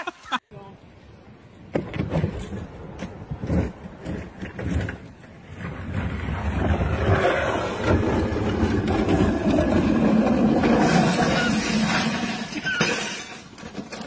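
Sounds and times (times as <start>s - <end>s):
hard wheels rolling on asphalt: 1.3s - 14.0s.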